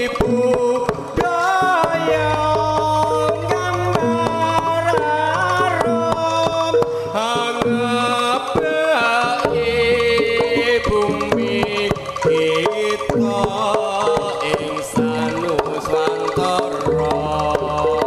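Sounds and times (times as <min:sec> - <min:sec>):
sliding lead melody: 0:00.0 - 0:17.0
gamelan percussion: 0:00.0 - 0:18.0
hand drums: 0:00.0 - 0:18.0.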